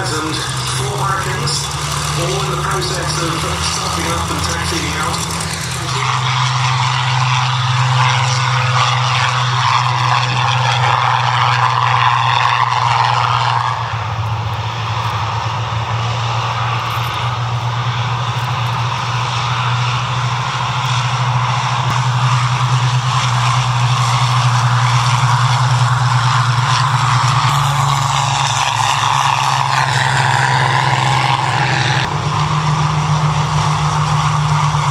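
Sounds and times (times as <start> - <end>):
propeller engines droning: 0.0 - 34.9.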